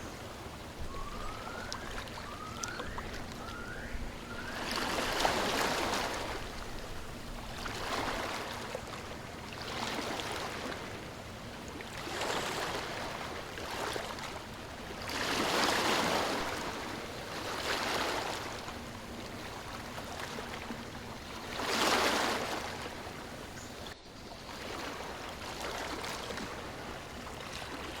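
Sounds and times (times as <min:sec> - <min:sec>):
ocean waves washing onto shore: 0:00.0 - 0:28.0
wind: 0:00.0 - 0:28.0.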